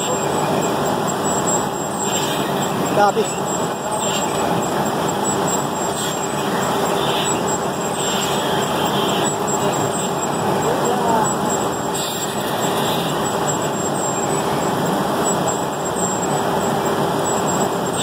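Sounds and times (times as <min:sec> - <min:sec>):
industrial machinery running: 0:00.0 - 0:18.0.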